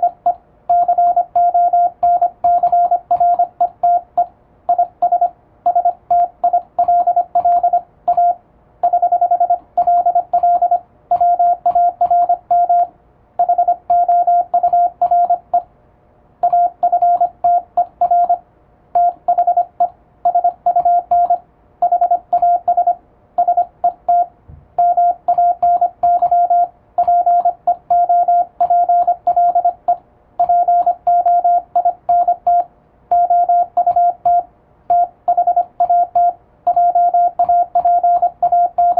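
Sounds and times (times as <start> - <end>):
morse code beeps: 0.0 - 15.7, 16.4 - 18.4, 19.0 - 38.9.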